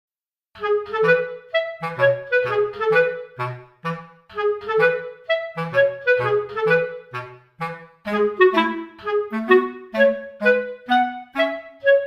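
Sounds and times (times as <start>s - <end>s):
woodwind playing bouncy melody: 0.6s - 12.0s.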